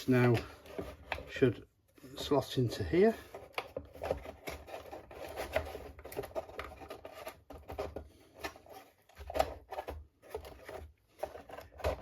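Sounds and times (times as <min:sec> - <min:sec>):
wooden knocks and scrapes: 0:00.0 - 0:12.0.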